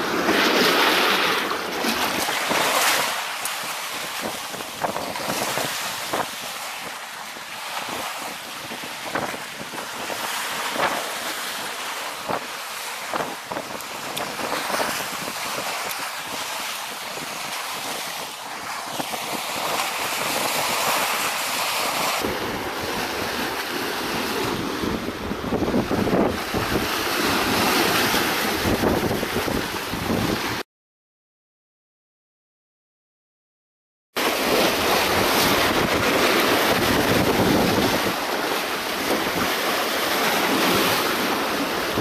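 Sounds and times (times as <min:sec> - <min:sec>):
sea waves splashing on rocks: 0:00.0 - 0:25.0, 0:25.8 - 0:30.6, 0:34.2 - 0:42.0
wind buffeting microphone: 0:00.5 - 0:30.6, 0:34.5 - 0:42.0.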